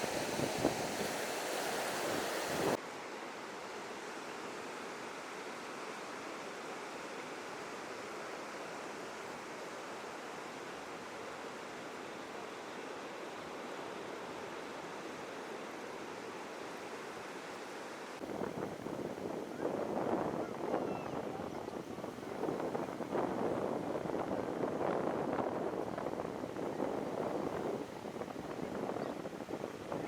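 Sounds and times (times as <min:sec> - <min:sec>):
surf on a beach: 0:00.0 - 0:30.0.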